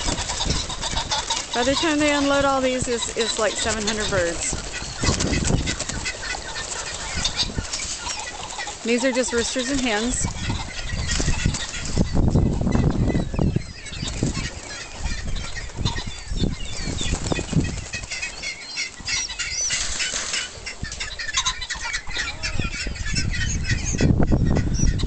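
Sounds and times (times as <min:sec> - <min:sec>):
wings flapping: 0:00.0 - 0:23.7
pheasants chirping: 0:00.0 - 0:25.0.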